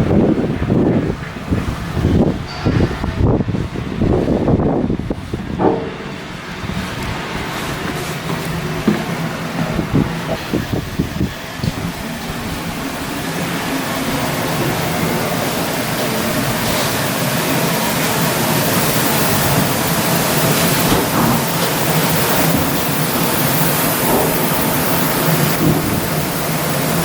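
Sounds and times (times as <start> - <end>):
machinery rushing with low hum: 0.0 - 27.0.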